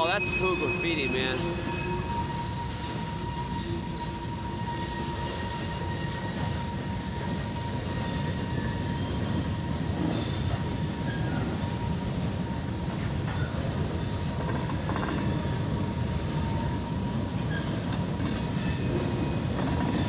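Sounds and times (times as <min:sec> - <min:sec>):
steel wheels rumbling on rails: 0:00.0 - 0:20.0.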